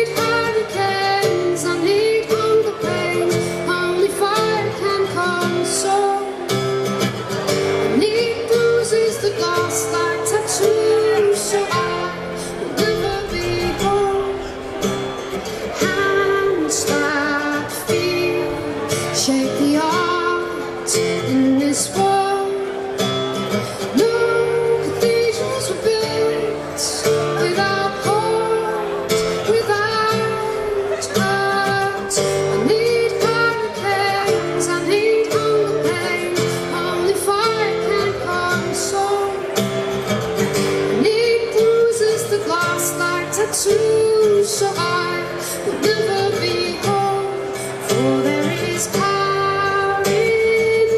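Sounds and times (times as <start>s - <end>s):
woman singing: 0.0s - 6.6s, 7.6s - 22.9s, 23.8s - 39.6s, 40.7s - 50.9s
strummed acoustic guitar: 0.0s - 50.9s.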